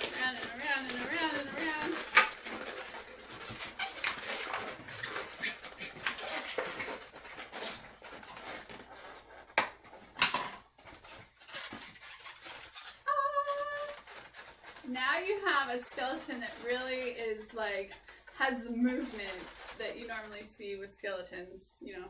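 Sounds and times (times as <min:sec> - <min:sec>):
balloons rubbing and squeaking: 0:00.0 - 0:20.8.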